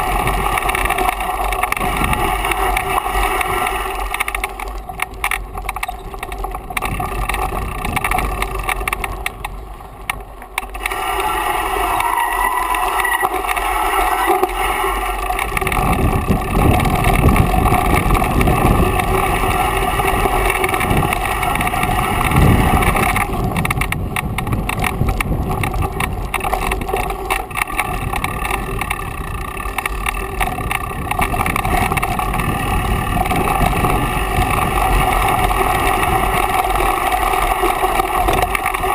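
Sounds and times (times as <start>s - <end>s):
bike tyre and frame rattle: 0.0s - 38.9s
wind buffeting microphone: 0.0s - 38.9s.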